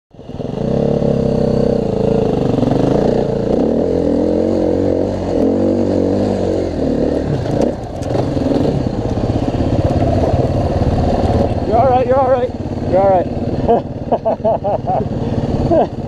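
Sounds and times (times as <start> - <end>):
dirt bike engine revving: 0.2 - 16.0.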